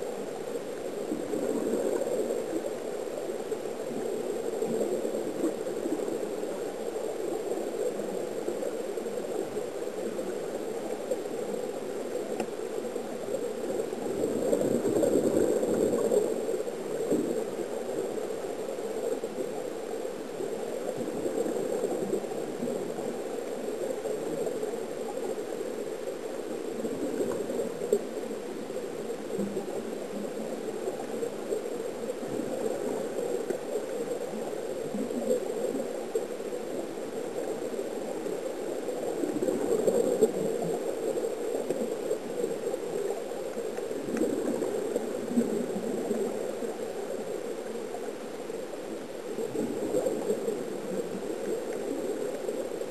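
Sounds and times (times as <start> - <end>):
underwater air bubbles gurgling: 0.0 - 52.9.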